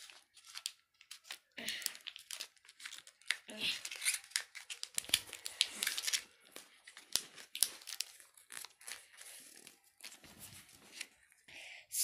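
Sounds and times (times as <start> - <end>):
foil wrapping crinkling and tearing: 0.0 - 10.2.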